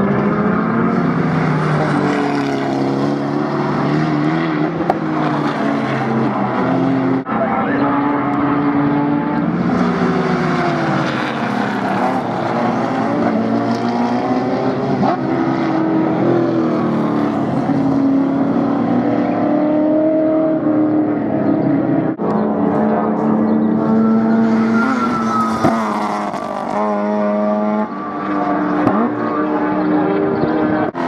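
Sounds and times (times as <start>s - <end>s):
race car engines accelerating: 0.0s - 31.0s.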